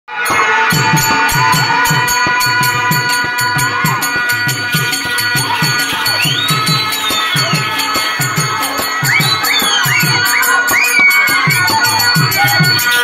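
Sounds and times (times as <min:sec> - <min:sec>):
hand drum beating: 0:00.2 - 0:13.0.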